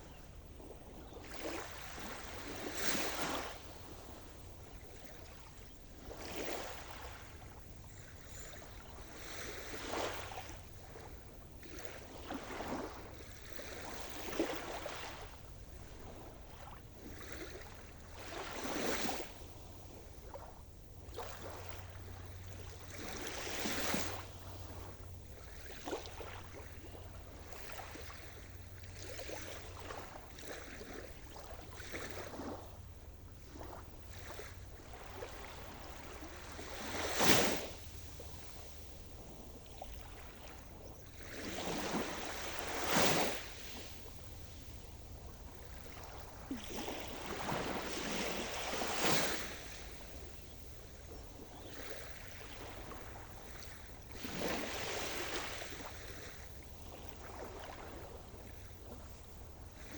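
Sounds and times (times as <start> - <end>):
small waves breaking: 0.0 - 59.9.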